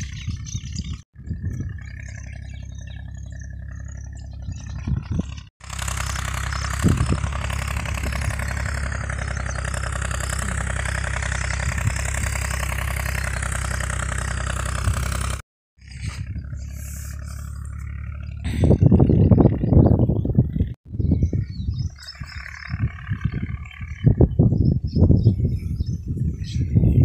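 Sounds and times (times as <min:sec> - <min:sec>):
tractor diesel engine idling: 0:01.2 - 0:20.7, 0:22.1 - 0:24.3.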